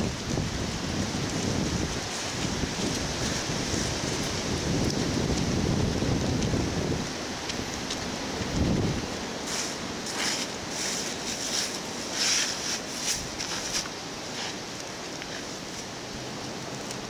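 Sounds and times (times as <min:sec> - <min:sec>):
wind noise on microphone: 0:00.0 - 0:17.0
footsteps crunching dry leaves: 0:00.7 - 0:16.2.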